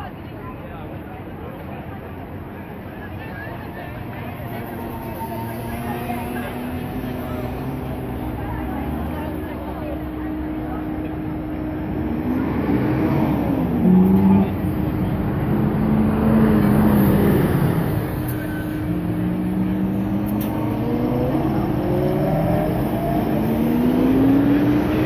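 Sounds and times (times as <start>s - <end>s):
traffic noise: 0.0s - 25.0s
car engine accelerating: 4.5s - 25.0s.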